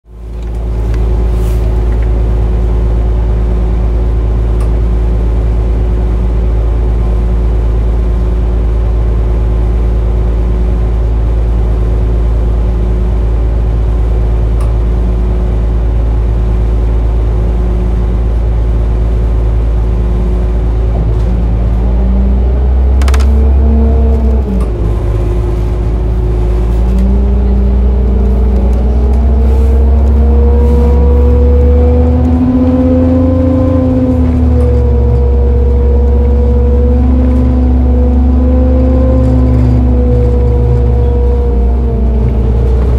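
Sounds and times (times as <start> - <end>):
bus diesel engine idling: 0.1 - 42.9.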